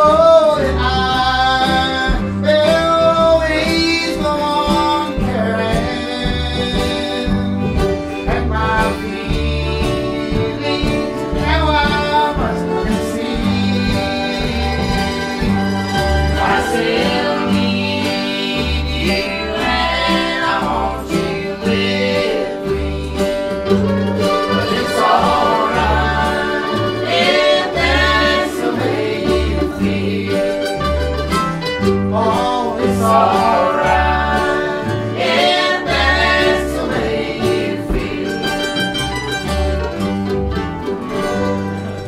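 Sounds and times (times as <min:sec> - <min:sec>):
person singing: 0:00.0 - 0:30.8, 0:32.0 - 0:38.9
string band playing: 0:00.0 - 0:42.0
upright bass: 0:00.0 - 0:42.0.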